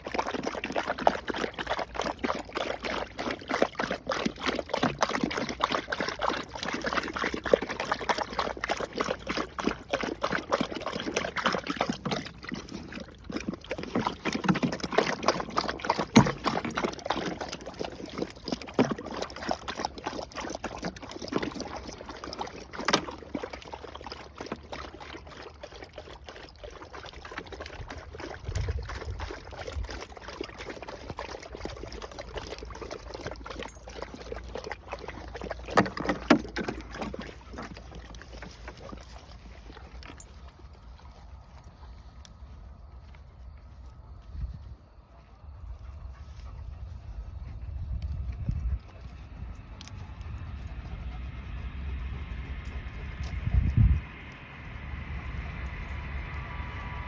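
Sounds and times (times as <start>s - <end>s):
dogs lapping water: 0.0s - 57.0s.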